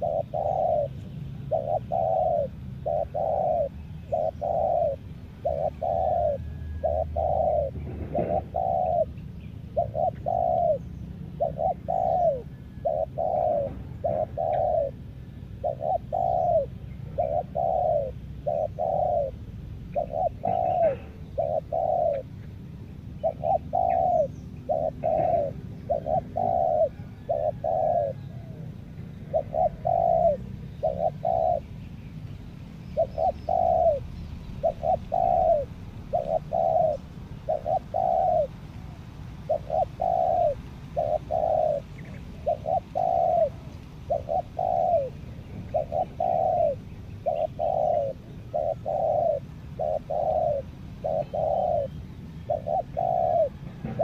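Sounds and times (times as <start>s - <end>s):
dove cooing: 0.0s - 54.0s
small birds chirping: 0.0s - 54.0s.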